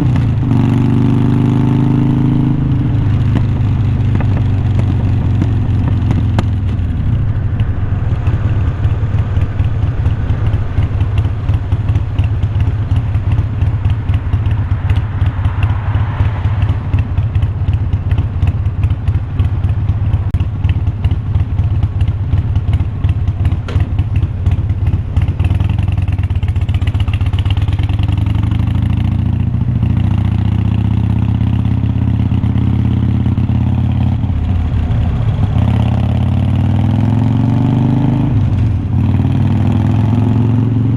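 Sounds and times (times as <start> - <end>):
motorcycle exhaust pulsing: 0.0 - 40.9.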